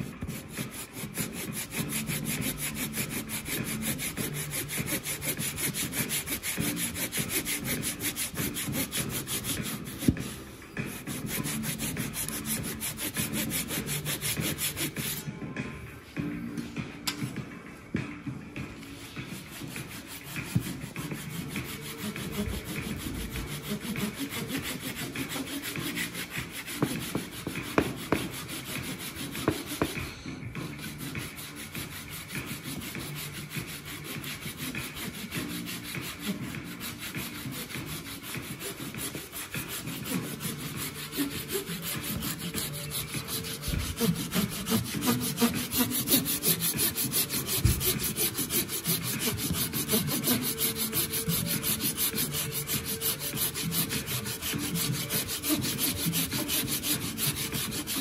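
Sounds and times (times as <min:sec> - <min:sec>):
hand saw cutting plywood: 0:00.0 - 0:10.2, 0:10.9 - 0:15.2, 0:21.6 - 0:30.0, 0:32.8 - 0:58.0.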